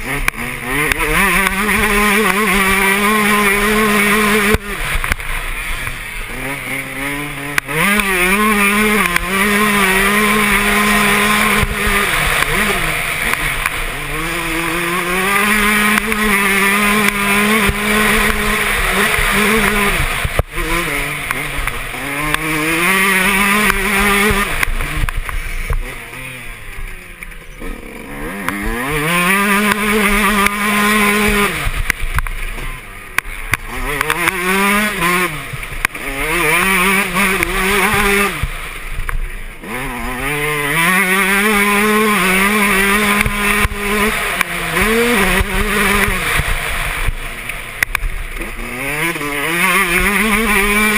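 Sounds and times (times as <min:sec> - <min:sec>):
two-stroke engine revving: 0:00.0 - 0:50.9.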